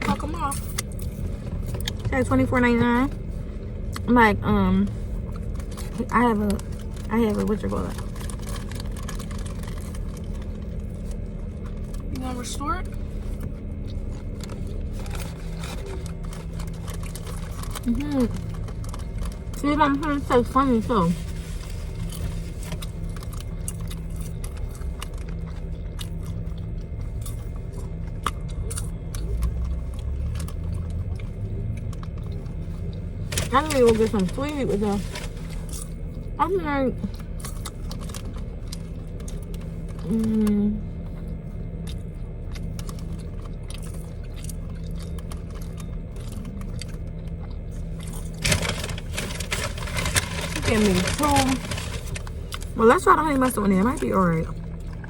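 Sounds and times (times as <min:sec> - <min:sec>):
chewing crunchy food: 0:00.0 - 0:04.1, 0:05.0 - 0:55.0
steady low hum: 0:00.0 - 0:55.0.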